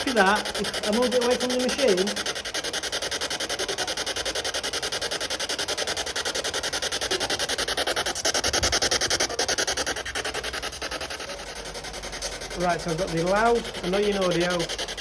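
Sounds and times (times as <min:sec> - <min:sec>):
pulsing radio static hiss: 0:00.0 - 0:15.0.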